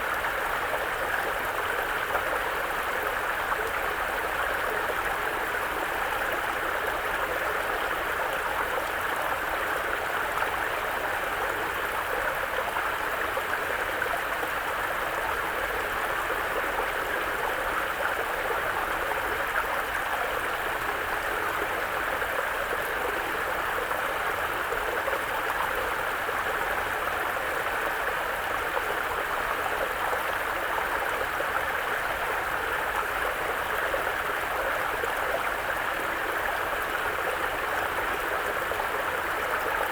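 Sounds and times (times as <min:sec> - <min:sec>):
brook flowing over rocks: 0:00.1 - 0:39.9.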